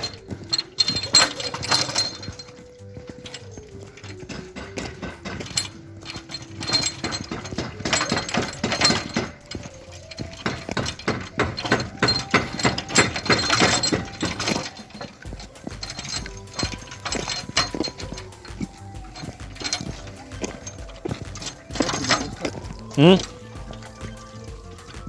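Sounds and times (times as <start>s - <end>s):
faint background music: 0.0s - 25.0s
rattling and clattering knocks: 0.0s - 25.0s.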